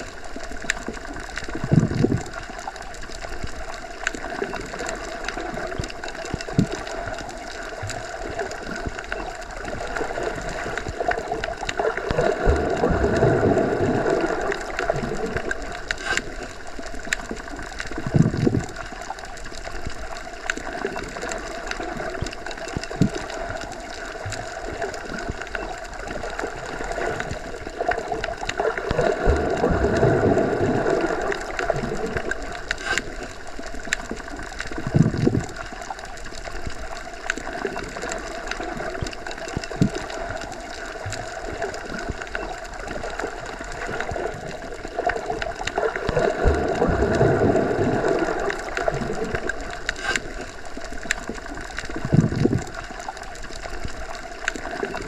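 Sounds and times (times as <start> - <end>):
muffled underwater water rush: 0.0 - 55.0.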